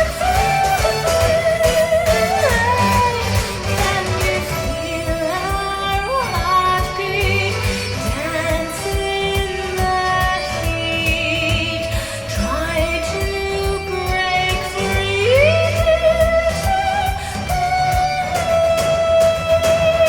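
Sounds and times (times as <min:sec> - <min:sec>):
music beat from loudspeakers: 0:00.0 - 0:20.0
woman singing with vibrato: 0:00.0 - 0:20.0.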